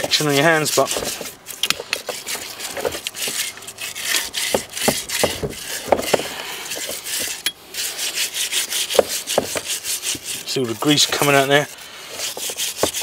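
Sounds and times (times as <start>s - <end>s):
brush scrubbing a wheel hub: 0.0s - 13.0s.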